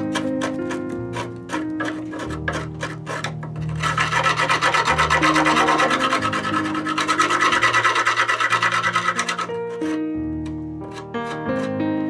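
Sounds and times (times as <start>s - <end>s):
rasping scraping on wood: 0.0s - 10.0s, 10.8s - 11.8s.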